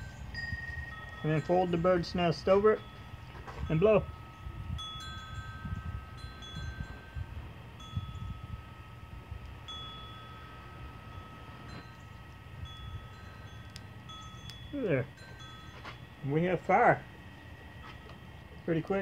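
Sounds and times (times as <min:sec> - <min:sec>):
wind chimes ringing: 0:00.0 - 0:19.0
wind rumble on microphone: 0:00.0 - 0:19.0.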